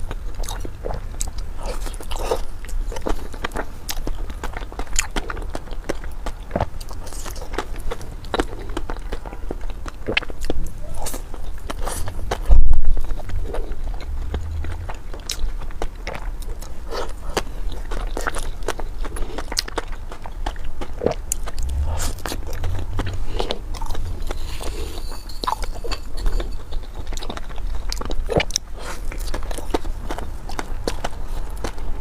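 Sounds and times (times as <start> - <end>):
person chewing with wet smacks: 0.0 - 24.0, 26.9 - 31.9.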